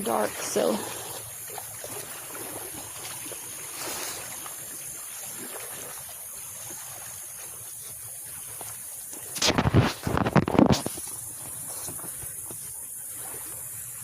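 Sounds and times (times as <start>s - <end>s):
small waves lapping on shore: 0.0s - 14.0s.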